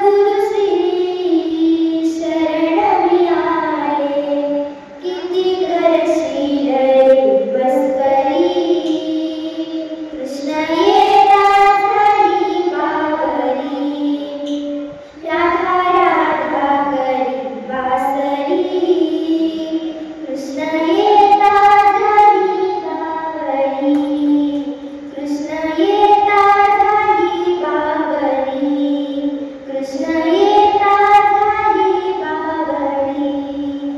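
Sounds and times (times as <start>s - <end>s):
girl singing: 0.0s - 33.9s.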